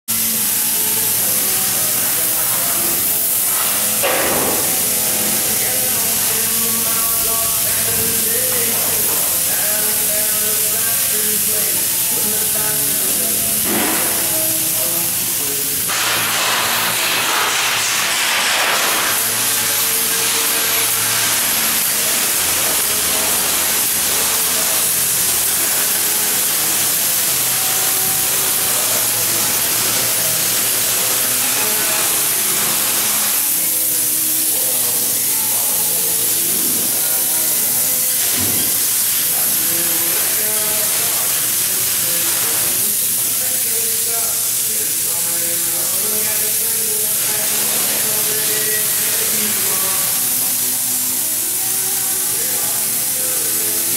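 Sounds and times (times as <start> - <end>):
spray foam gun hissing: 0.1 - 53.9.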